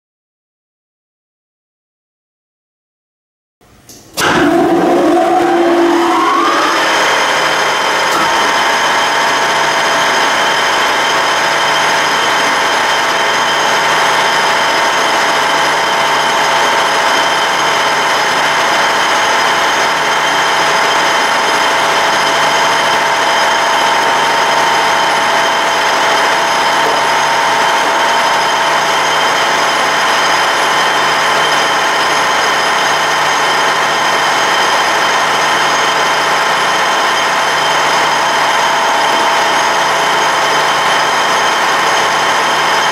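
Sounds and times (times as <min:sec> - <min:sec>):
lathe whine: 0:04.2 - 0:42.9.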